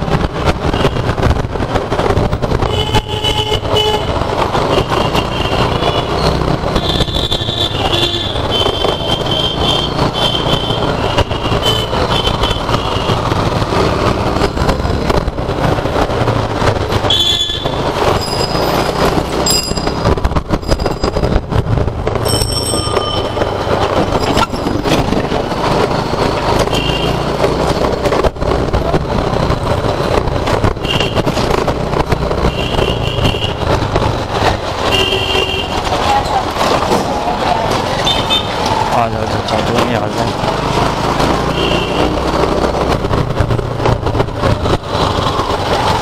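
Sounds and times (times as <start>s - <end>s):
scooter engine road and wind rumble: 0.0s - 46.0s.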